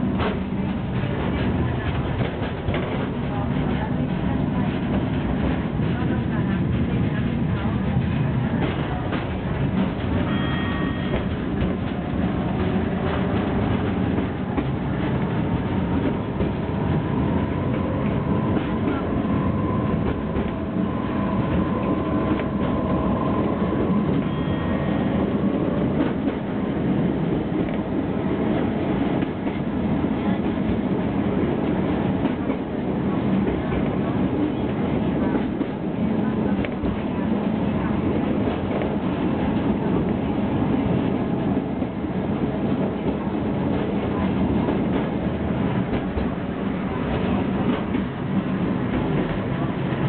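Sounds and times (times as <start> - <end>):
small train wheels rattling on rails: 0.0 - 50.0.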